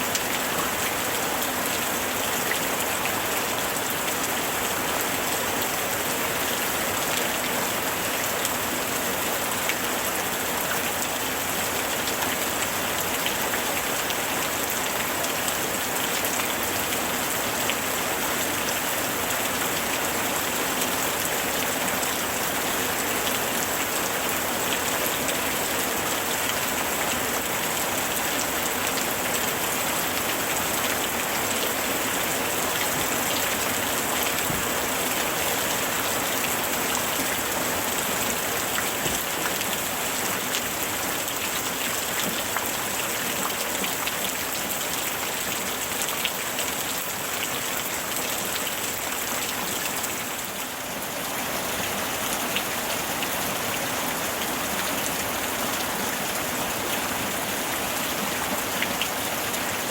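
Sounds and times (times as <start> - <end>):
rain pattering: 0.1 - 59.9.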